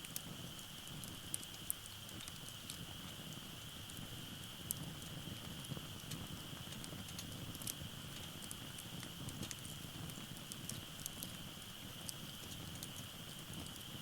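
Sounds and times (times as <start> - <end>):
fire crackling and popping: 0.0 - 14.0
low fire rumble: 0.0 - 14.0.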